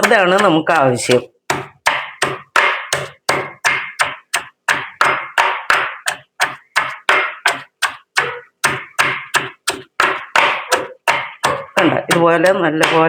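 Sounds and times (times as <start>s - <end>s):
crushing stone pounding: 0.0s - 13.0s.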